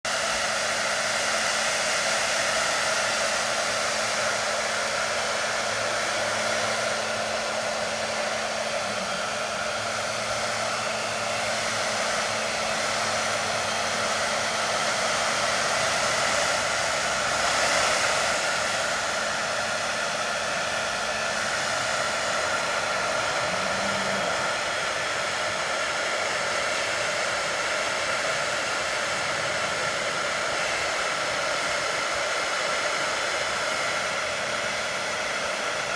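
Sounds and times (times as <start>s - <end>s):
hair dryer running: 0.1s - 35.9s.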